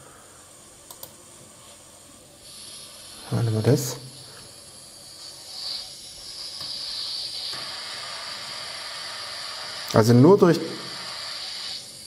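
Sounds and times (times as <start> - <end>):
steam hiss from small loudspeaker: 1.5 - 12.0.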